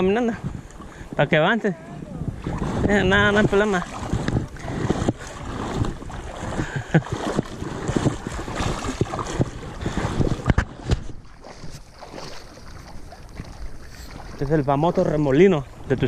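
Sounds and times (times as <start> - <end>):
river water splashing: 0.0 - 16.0.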